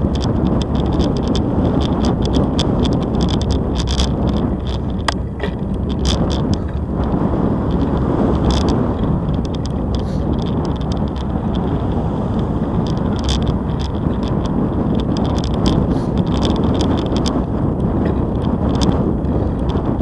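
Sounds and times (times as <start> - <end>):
bicycle tyres rumbling on bricks: 0.0 - 20.0
bike rattling over bumps: 0.0 - 20.0
wind on microphone: 0.0 - 20.0.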